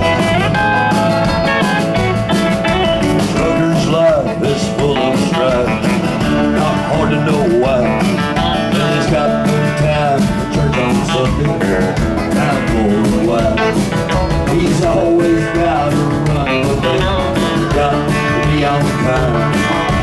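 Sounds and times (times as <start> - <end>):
country band playing: 0.0 - 20.0
guitar with sliding notes: 0.0 - 20.0.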